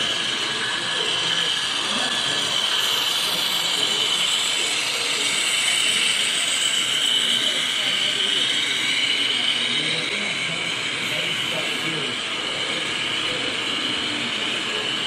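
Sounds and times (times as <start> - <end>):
model train motors whirring: 0.0 - 15.0
wheels rolling on rails: 0.0 - 15.0.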